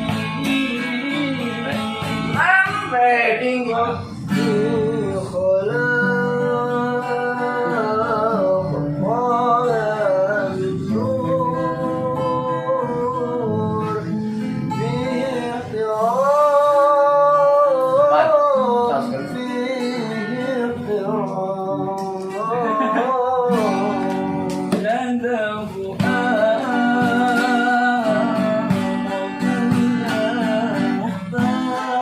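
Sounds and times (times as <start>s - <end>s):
person singing slow melody: 0.0s - 32.0s
plucked acoustic guitar: 0.0s - 32.0s.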